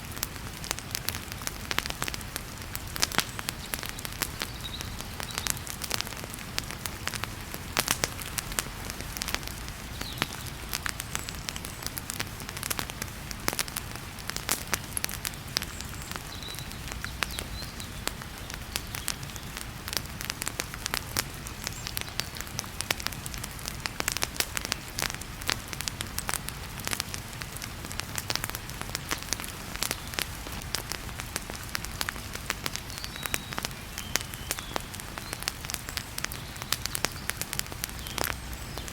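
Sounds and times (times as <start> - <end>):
heavy rain: 0.0 - 38.9
wood fire crackling and popping: 0.0 - 38.9.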